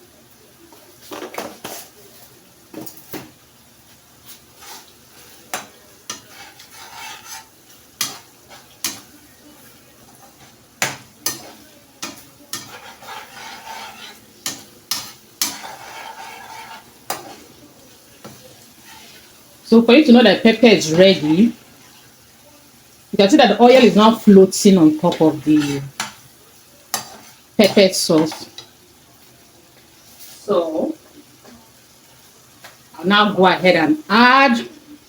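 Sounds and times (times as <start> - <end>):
sauce sizzling in oil: 0.0 - 35.0.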